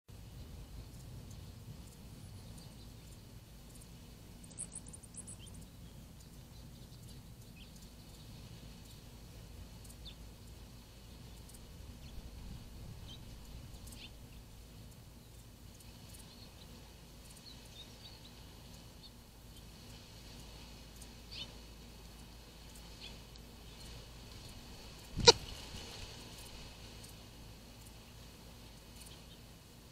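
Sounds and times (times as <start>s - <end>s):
low background noise: 0.1s - 29.9s.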